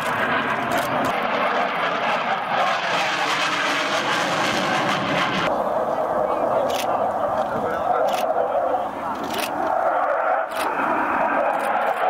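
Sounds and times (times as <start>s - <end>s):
jet engine passing: 0.0s - 12.0s.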